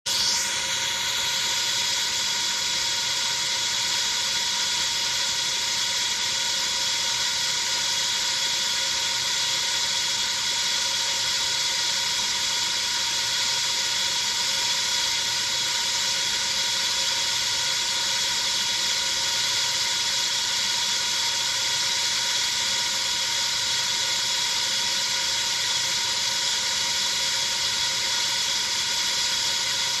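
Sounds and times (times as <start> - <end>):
high-pitched hiss with held tones: 0.1 - 30.0.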